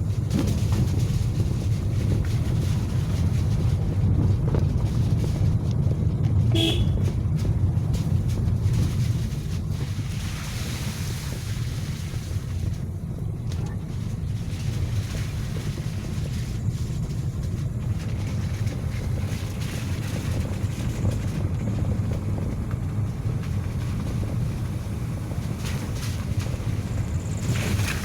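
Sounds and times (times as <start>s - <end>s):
engine and tyres rumbling: 0.0s - 28.0s.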